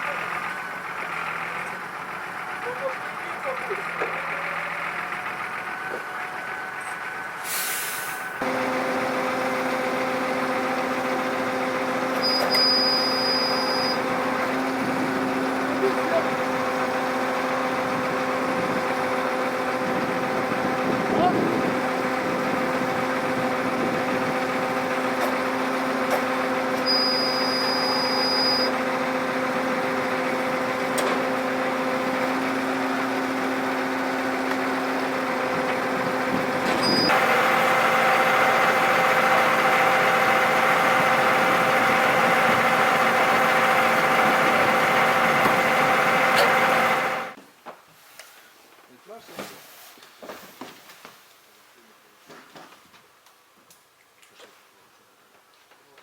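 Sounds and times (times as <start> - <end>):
engine drone: 0.0 - 47.4.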